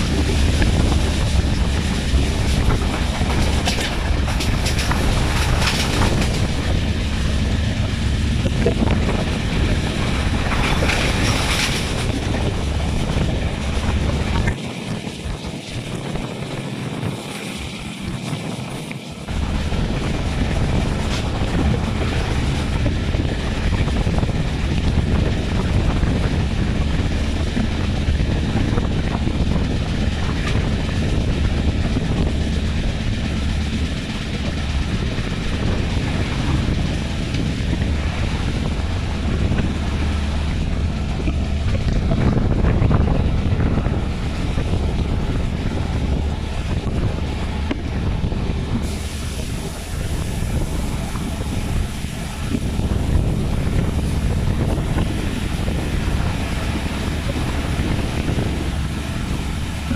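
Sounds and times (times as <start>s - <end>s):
train rumbling on rails: 0.0s - 59.9s
wind rushing over microphone: 0.0s - 59.9s.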